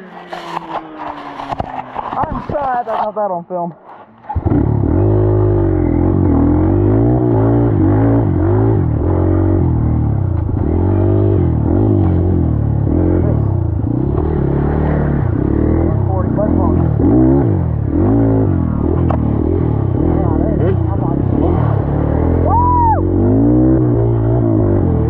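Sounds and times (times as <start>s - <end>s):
dirt bike engine revving: 4.2s - 25.0s.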